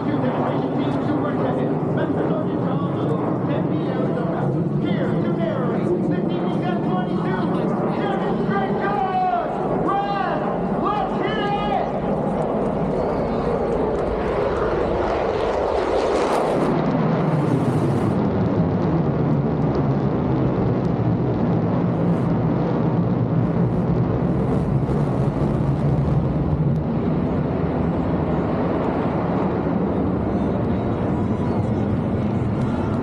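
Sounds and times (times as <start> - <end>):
fighter jet engine running: 0.0 - 33.0.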